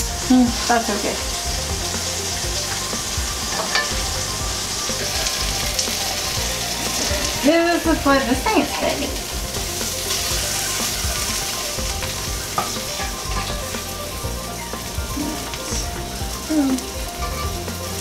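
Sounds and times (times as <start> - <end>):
meat sizzling in skillet: 0.0 - 18.0
tongs turning meat: 0.1 - 18.0.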